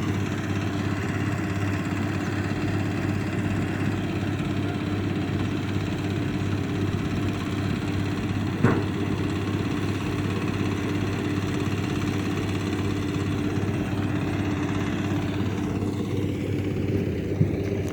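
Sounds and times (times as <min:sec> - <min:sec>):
harvester engine running: 0:00.0 - 0:17.9.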